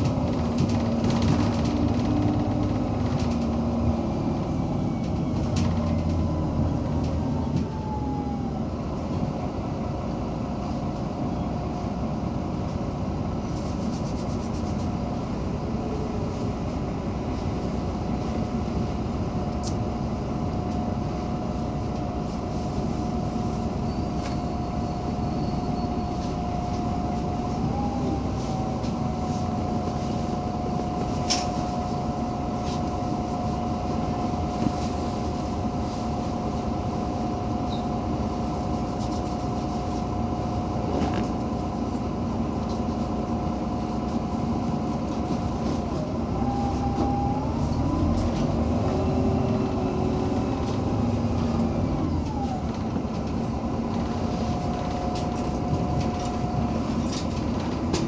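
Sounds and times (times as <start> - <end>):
bus engine idling: 0.0 - 58.0
engine whine: 0.0 - 58.0.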